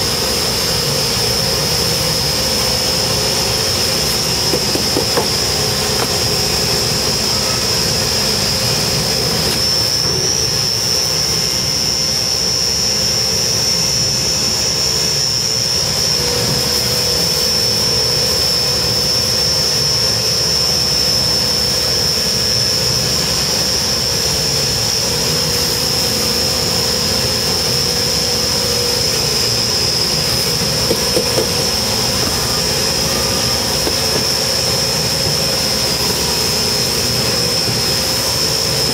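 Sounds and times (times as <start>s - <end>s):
concrete mixer truck drone: 0.0s - 38.9s
high-pitched whine: 0.0s - 38.9s.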